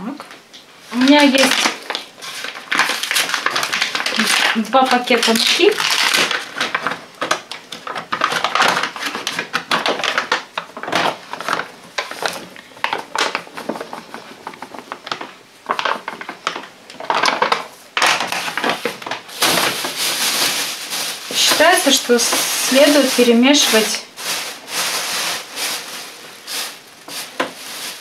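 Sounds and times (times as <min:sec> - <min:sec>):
paper bag crinkling: 0:00.9 - 0:28.0.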